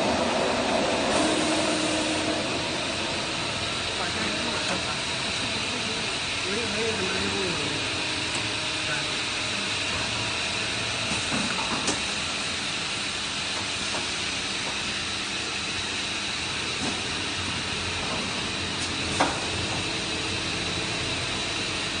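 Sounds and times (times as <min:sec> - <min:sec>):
machine hissing with high whine: 0:00.0 - 0:22.0.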